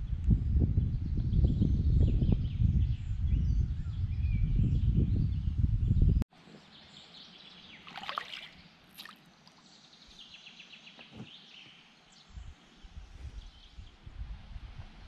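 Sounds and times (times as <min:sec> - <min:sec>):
small birds chirping: 0:00.8 - 0:14.1.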